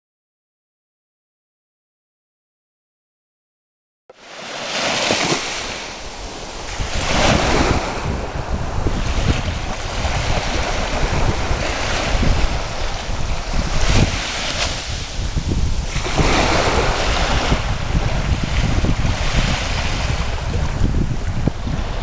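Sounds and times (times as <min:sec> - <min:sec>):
sea surf washing onto beach: 0:04.1 - 0:22.0.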